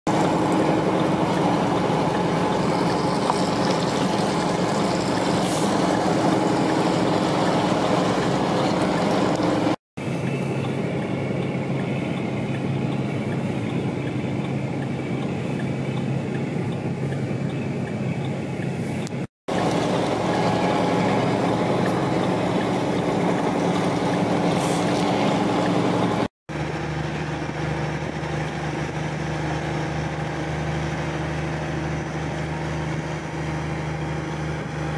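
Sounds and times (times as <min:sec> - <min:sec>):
diesel truck engines idling: 0:00.1 - 0:34.9
road and outdoor noise: 0:00.1 - 0:34.9.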